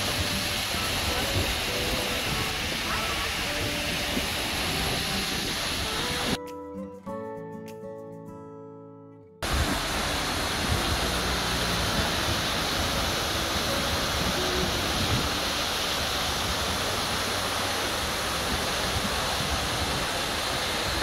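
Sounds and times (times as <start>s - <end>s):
waterfall rushing splash: 0.0s - 6.4s, 9.4s - 21.0s.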